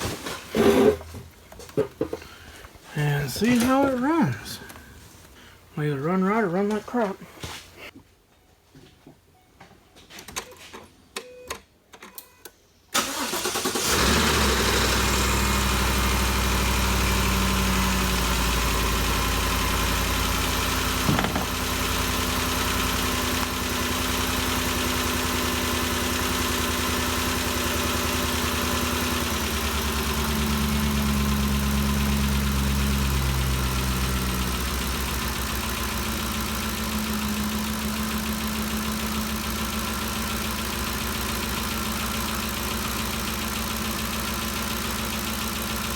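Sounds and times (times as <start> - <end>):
car engine starting and idling: 0.0 - 7.2, 12.9 - 45.9.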